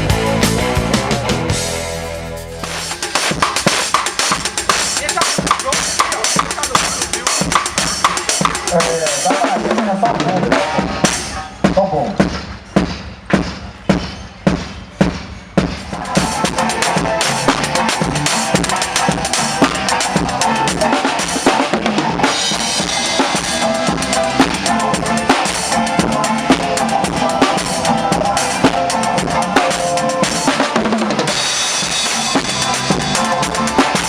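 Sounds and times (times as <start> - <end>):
band playing live: 0.0 - 34.0.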